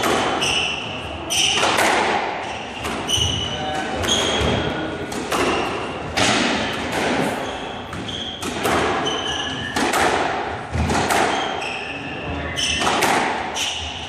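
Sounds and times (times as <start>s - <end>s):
sneakers squeaking on hardwood: 0.0s - 6.2s, 7.0s - 10.0s, 10.7s - 14.0s
squash ball hits echoing: 0.0s - 11.8s, 12.5s - 14.0s.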